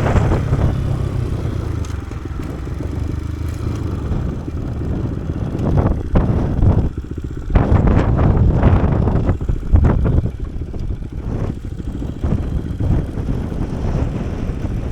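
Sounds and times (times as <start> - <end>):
motorcycle engine running: 0.0 - 14.9
wind buffeting microphone: 0.0 - 14.9.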